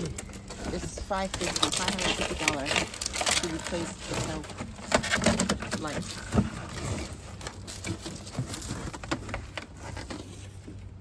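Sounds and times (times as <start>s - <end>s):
cardboard box rustling: 0.0s - 11.0s
plastic wrap crinkling: 0.0s - 11.0s.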